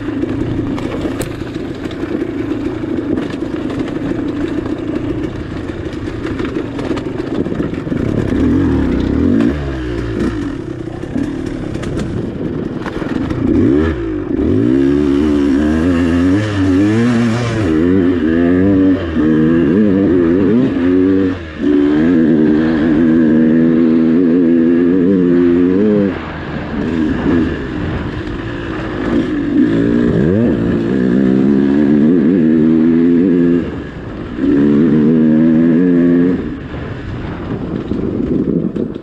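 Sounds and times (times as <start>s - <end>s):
dirt bike engine revving: 0.0s - 38.6s.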